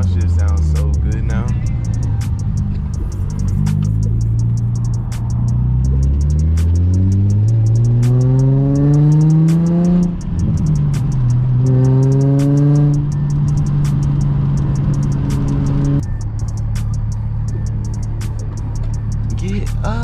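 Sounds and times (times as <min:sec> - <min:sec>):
background music with steady beat: 0:00.0 - 0:20.0
car engine accelerating hard: 0:00.0 - 0:20.0.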